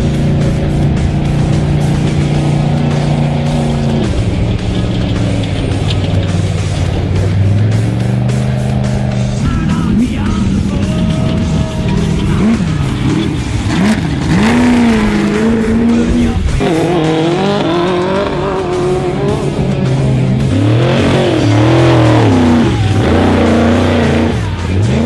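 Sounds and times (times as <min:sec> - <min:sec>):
race vehicle engines revving: 0:00.0 - 0:25.0.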